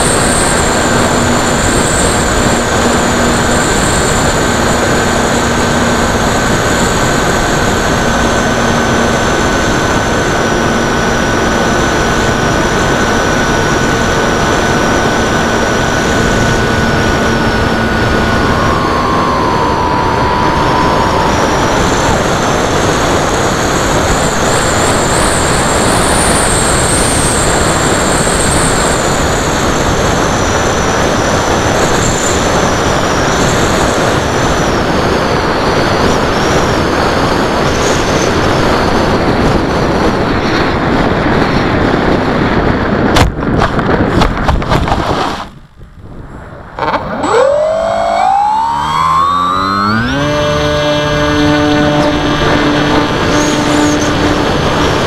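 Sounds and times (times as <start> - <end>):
electric motor and propeller whining: 0.0 - 42.9, 46.4 - 55.0
wind rushing over airframe: 0.0 - 55.0.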